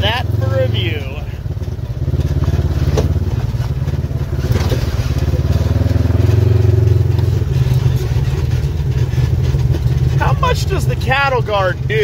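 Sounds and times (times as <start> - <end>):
utv engine running: 0.0 - 12.0.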